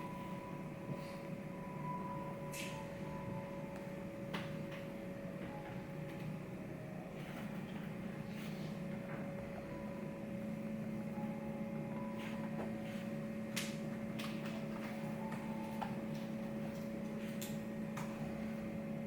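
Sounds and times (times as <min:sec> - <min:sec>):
ventilation hum: 0:00.0 - 0:19.0.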